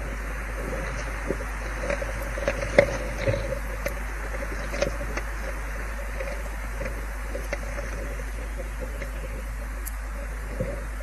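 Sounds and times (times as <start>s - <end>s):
low hum: 0.0s - 11.0s
steady hiss: 0.0s - 11.0s.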